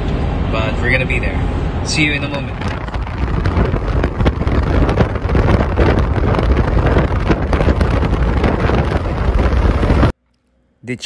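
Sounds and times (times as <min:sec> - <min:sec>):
wind buffeting microphone: 0:00.0 - 0:10.2
car road noise: 0:00.0 - 0:11.0.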